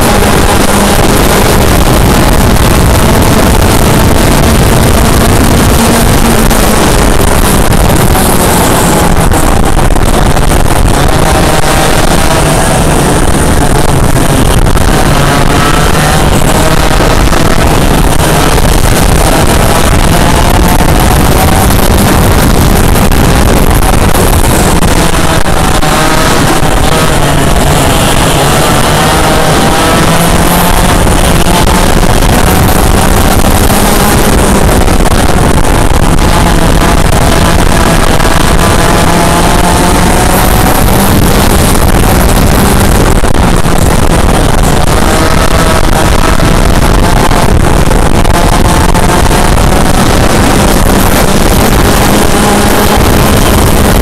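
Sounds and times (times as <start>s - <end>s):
kart engine buzzing: 0.0s - 54.0s.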